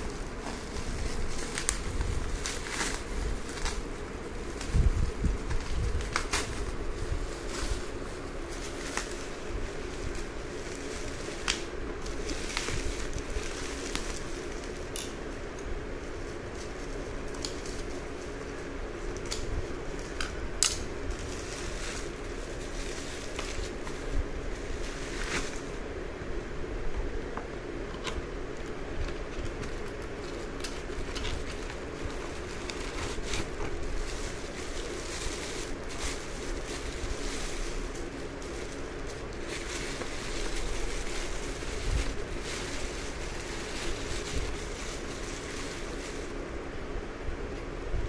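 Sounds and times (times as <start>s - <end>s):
plastic and foam wrap rustling: 0.0s - 27.3s, 27.9s - 46.9s
steady background hum: 0.0s - 48.0s.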